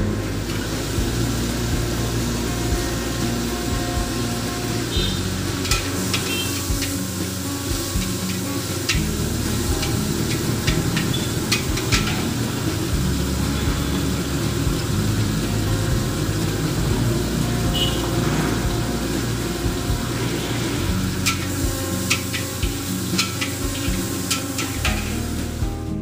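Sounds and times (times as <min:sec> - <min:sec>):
gas burner rumble: 0:00.0 - 0:26.0
noodles sizzling in wok: 0:00.0 - 0:26.0
spatula clanking on wok: 0:01.8 - 0:19.9, 0:20.9 - 0:25.6.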